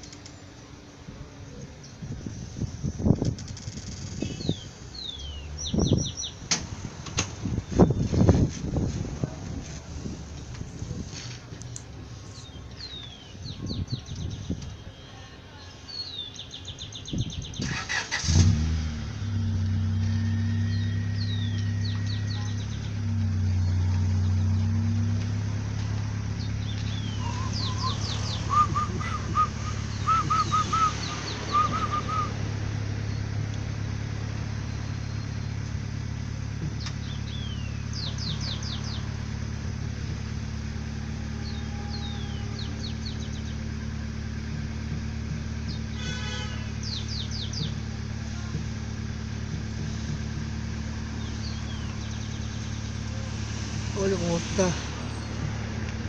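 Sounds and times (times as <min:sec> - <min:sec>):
birds chirping: 0:00.0 - 0:06.5, 0:07.4 - 0:10.5, 0:11.5 - 0:18.4, 0:19.4 - 0:56.0
car engine starting and idling: 0:00.0 - 0:14.7, 0:16.0 - 0:56.0.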